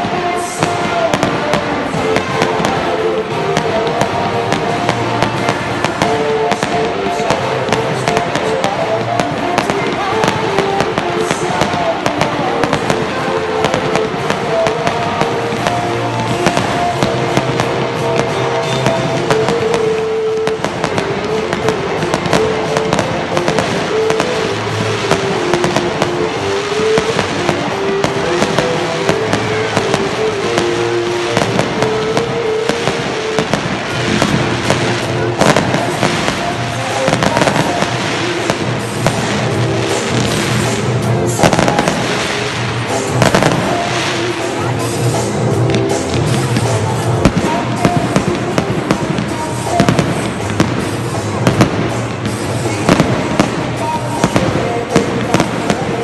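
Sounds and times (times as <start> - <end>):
fireworks crackling and popping: 0.0 - 56.0
music playing: 0.0 - 56.0.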